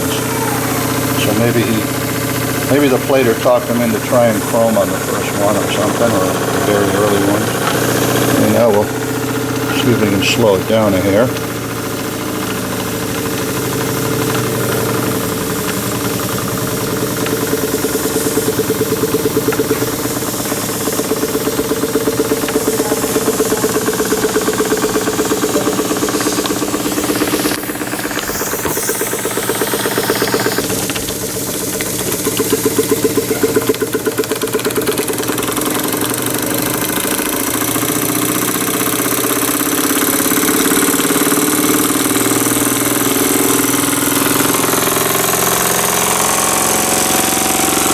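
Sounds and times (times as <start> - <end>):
toy steam engine running: 0.0 - 47.9.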